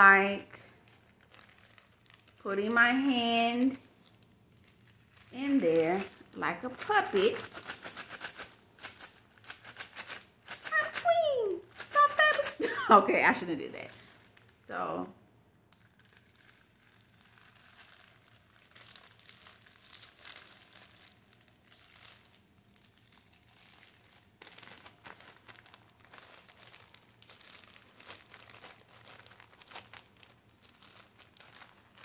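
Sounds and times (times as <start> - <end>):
plastic bag crinkling: 0.2 - 14.7, 15.6 - 32.0.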